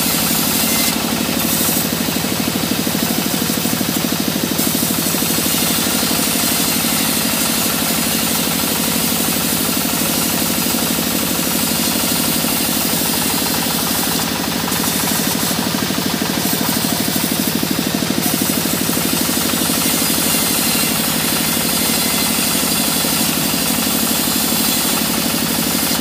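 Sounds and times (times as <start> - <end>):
band saw cutting wood: 0.0 - 26.0.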